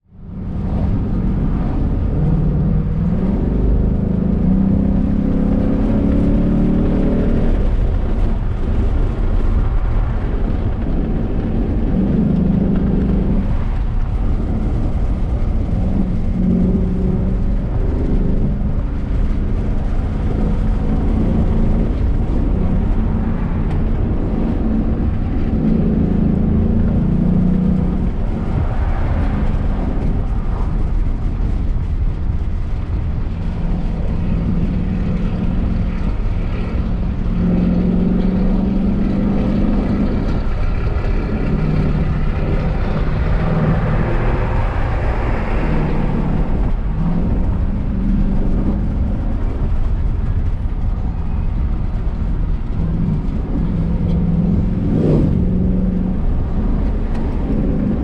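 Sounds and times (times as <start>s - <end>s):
car engine revving: 0.0s - 58.0s
road noise: 0.0s - 58.0s.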